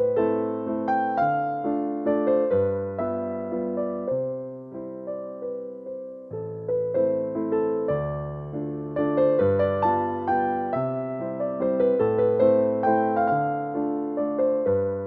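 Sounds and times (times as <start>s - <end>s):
slow electric piano tune: 0.0s - 15.0s.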